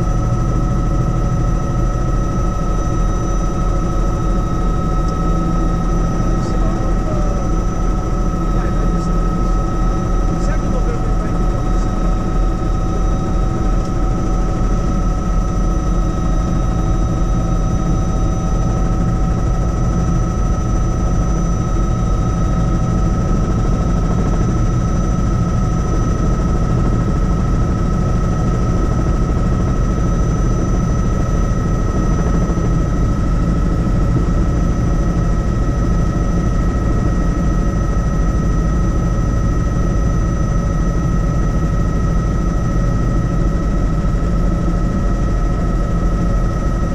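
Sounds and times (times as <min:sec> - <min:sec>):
helicopter in flight: 0:00.0 - 0:46.9.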